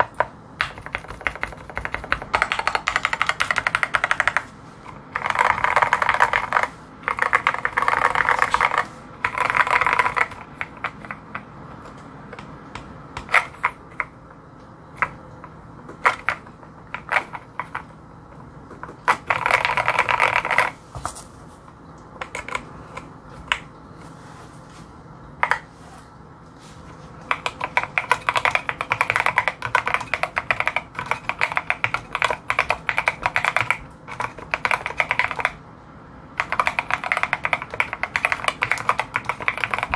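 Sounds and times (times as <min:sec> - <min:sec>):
mechanical keyboard typing: 0:00.0 - 0:14.2, 0:15.0 - 0:17.9, 0:18.7 - 0:20.8, 0:22.2 - 0:23.6, 0:27.2 - 0:35.6, 0:36.3 - 0:39.9.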